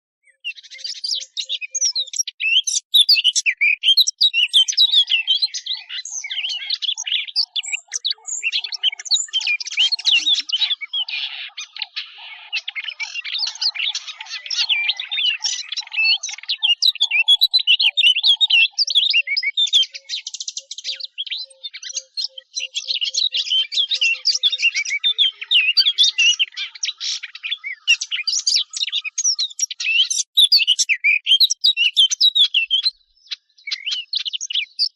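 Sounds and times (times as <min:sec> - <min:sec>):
warbler twittering song: 0:00.2 - 0:34.9.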